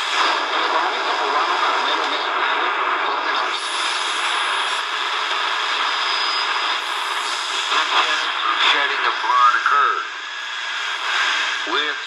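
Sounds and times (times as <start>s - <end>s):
radio static and hiss: 0.0s - 12.0s.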